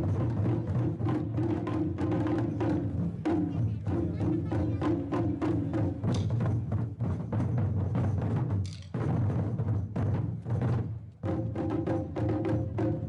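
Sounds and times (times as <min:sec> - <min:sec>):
taiko drum ensemble playing: 0:00.0 - 0:13.0.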